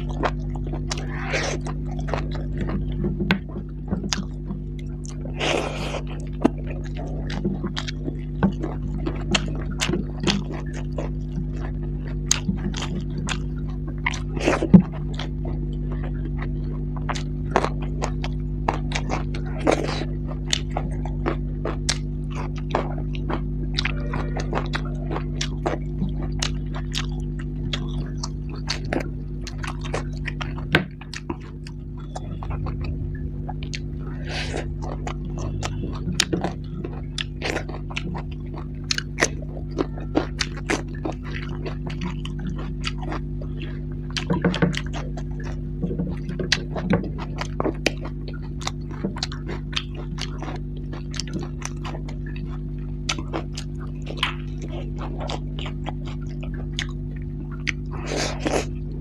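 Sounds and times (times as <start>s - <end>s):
steady low hum: 0.0s - 59.0s
wet chewing: 0.0s - 59.0s.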